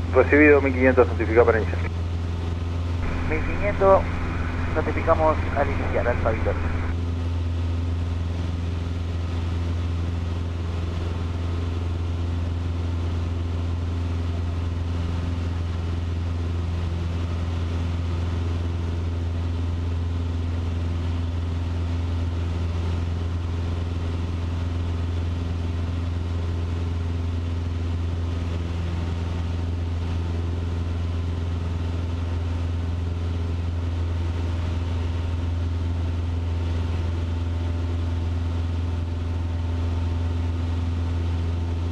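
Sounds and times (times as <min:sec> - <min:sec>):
propeller plane engine droning: 0:00.0 - 0:41.9.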